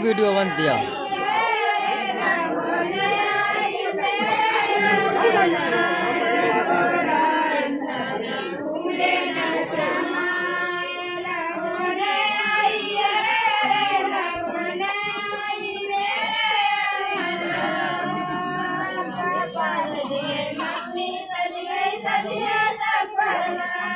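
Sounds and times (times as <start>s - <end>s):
high-pitched voices singing: 0.0s - 23.9s.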